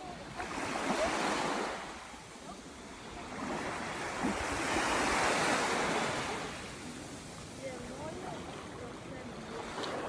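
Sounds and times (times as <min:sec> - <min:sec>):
sea waves washing onto shore: 0:00.0 - 0:10.0.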